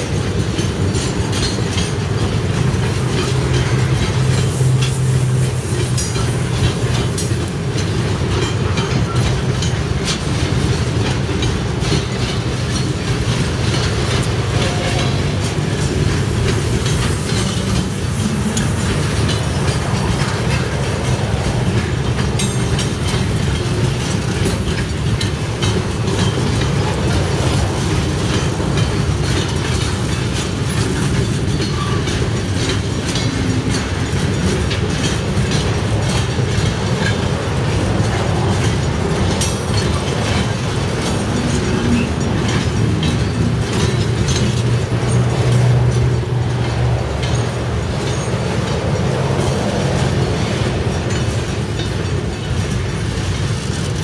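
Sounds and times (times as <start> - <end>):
freight train rumbling past: 0.0 - 54.0
steel wheels clattering on rails: 0.0 - 54.0.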